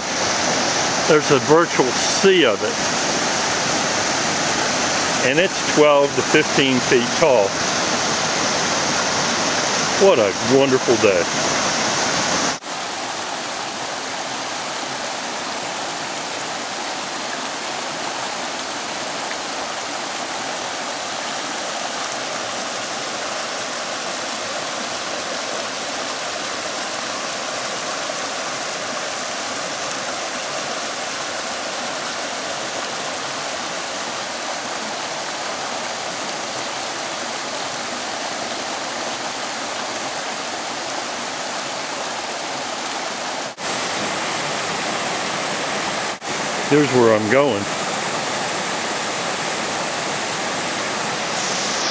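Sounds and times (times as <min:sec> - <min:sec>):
stream rushing over boulders: 0:00.0 - 0:51.9.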